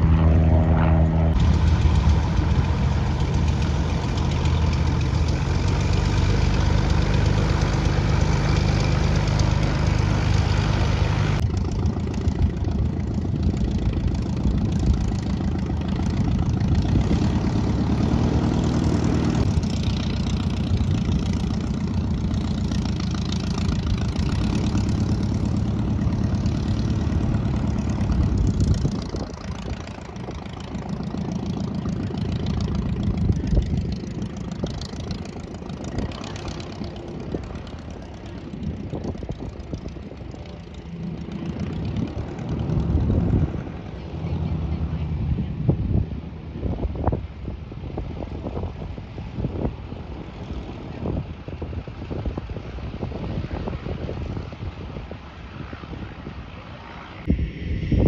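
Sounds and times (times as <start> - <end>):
propeller airplane engine idling: 0.0 - 58.0.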